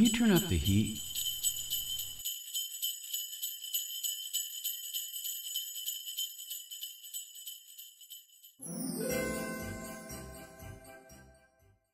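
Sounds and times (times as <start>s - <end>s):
jingle bells shaken: 0.0s - 11.4s.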